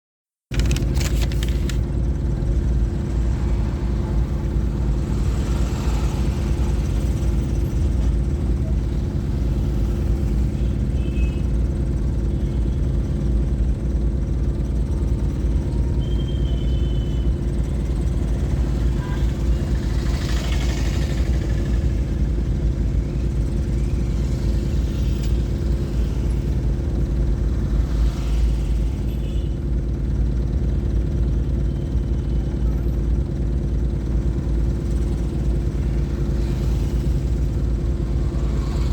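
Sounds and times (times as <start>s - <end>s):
vehicle engine humming: 0.5s - 38.9s.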